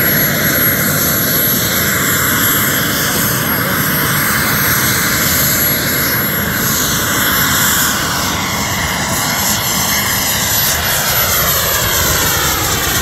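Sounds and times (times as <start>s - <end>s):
model jet turbine whine: 0.0s - 13.0s.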